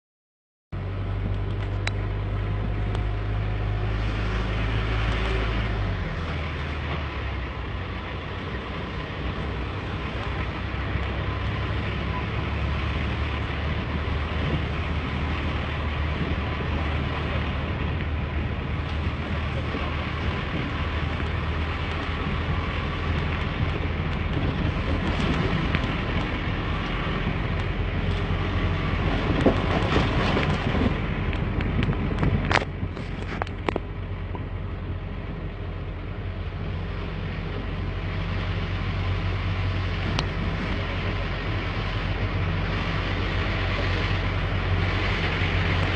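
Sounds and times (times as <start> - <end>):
road noise: 0.7 - 45.9
truck diesel engine drone: 0.7 - 45.9.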